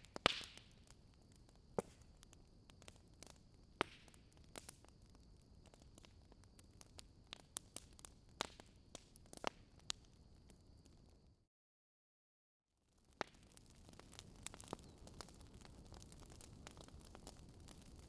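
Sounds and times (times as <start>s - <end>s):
wood fire crackling: 0.0s - 11.2s, 12.9s - 18.0s.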